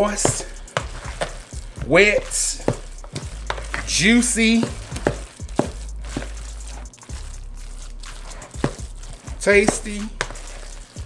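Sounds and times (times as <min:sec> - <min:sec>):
utensil scraping bowl: 0:00.0 - 0:11.0
wet stirring of salad: 0:00.0 - 0:11.0.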